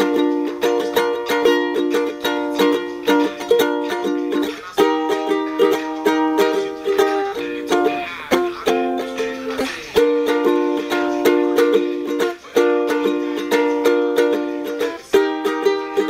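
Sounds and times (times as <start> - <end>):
ukulele strumming: 0.0 - 16.0.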